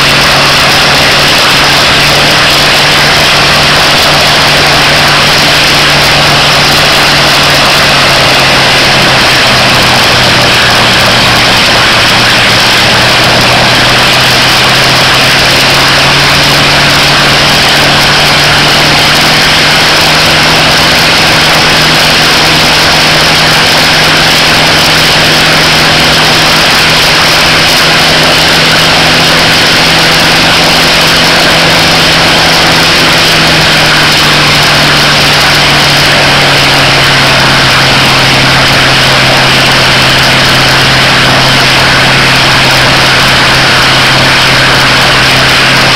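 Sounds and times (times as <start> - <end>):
propeller aircraft engine running: 0.0 - 45.9.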